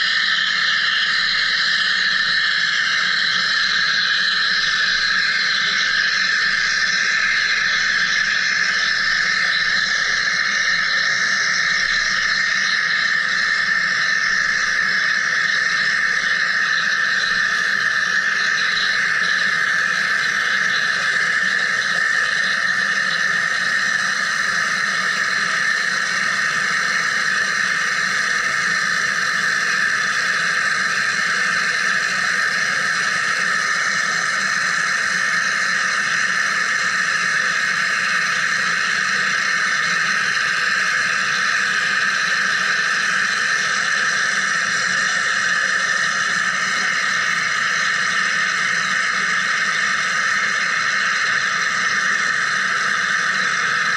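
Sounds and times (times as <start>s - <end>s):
machine high-pitched whine: 0.0s - 53.9s.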